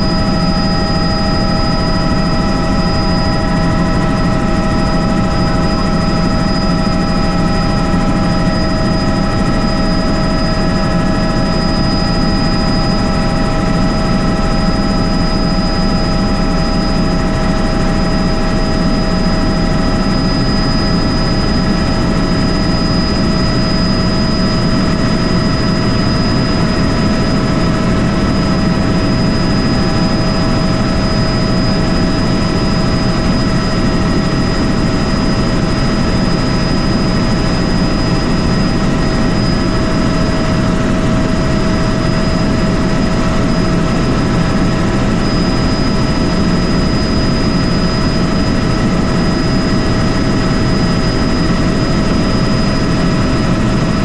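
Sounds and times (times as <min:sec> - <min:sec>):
constant high whine: 0:00.0 - 0:54.0
helicopter rotor and engine: 0:00.0 - 0:54.0.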